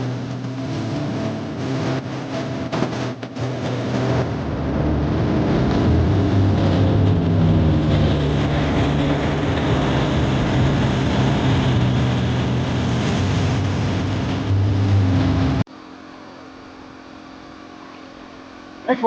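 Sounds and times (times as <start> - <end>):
propeller aircraft engines droning: 0.0 - 15.7.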